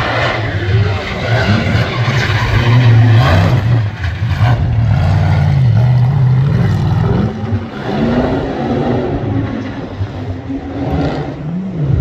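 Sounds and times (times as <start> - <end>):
racing car engine revving: 0.0 - 12.0.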